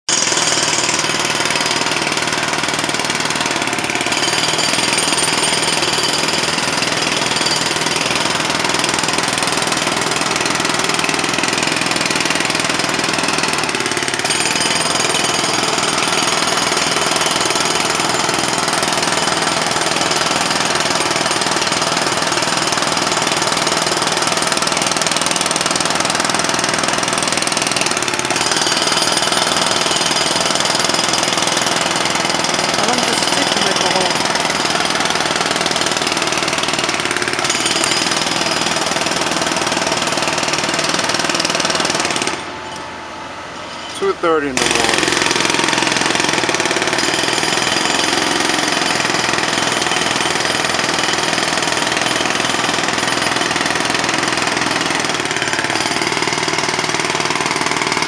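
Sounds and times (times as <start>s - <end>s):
jackhammer hammering: 0.1s - 58.0s.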